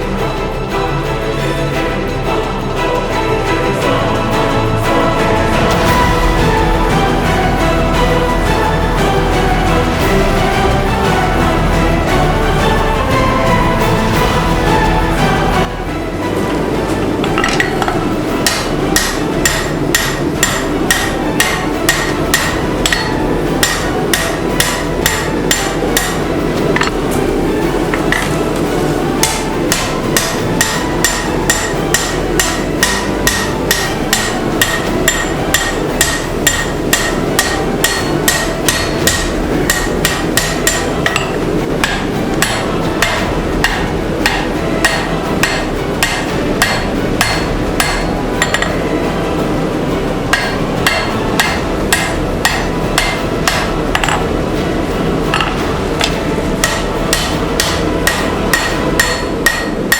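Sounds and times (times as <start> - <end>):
steady background noise: 0.0 - 59.9
hammer blows on steel anvil: 3.7 - 59.9.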